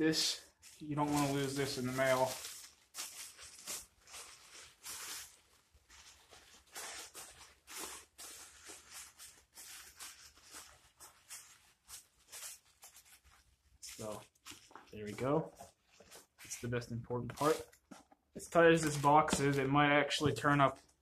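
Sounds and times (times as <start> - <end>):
plastic bag crinkling: 0.1 - 19.7.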